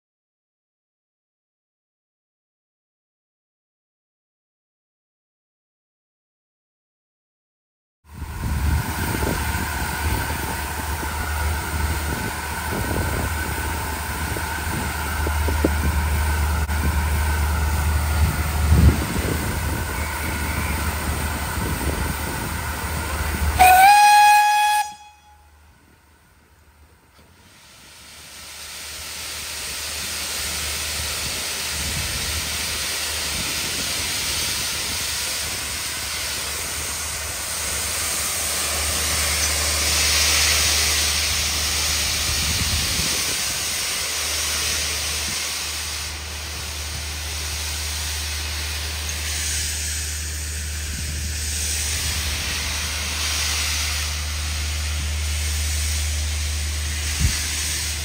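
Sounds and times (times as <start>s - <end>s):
steam hissing from locomotive: 8.1s - 58.0s.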